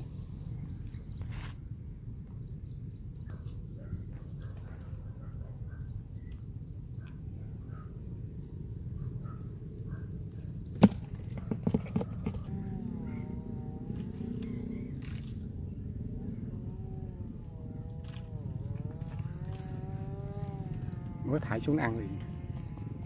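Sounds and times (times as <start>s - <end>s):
low outdoor background noise: 0.0s - 23.0s.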